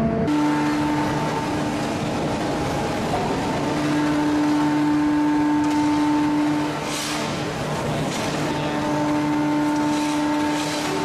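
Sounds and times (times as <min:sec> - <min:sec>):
heavy machinery roar: 0:00.0 - 0:11.0.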